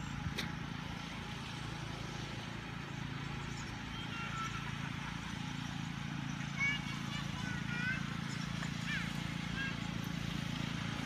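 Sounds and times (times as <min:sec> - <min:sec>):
distant lawn tractor engine: 0:00.0 - 0:11.0.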